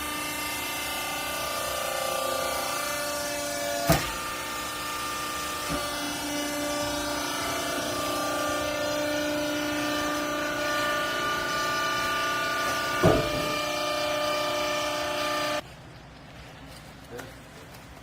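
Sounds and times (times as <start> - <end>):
hydraulic unit whining hum: 0.0 - 15.6.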